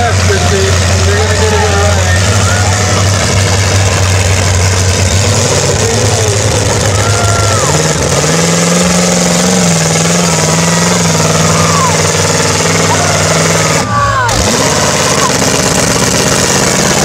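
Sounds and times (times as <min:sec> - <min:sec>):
loud truck engine revving: 0:00.0 - 0:17.0.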